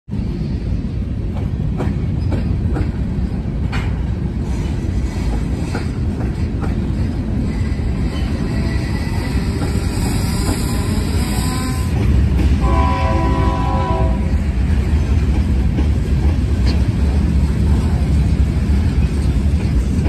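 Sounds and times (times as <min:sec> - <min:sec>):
train wheels rumbling on rail: 0:00.1 - 0:20.0.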